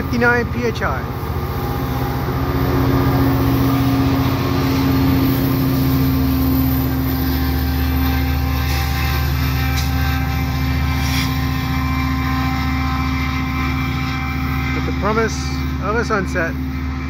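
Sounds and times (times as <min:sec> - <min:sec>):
diesel locomotive engine droning: 0:00.0 - 0:17.0
train wheels rumbling on rails: 0:00.0 - 0:17.0.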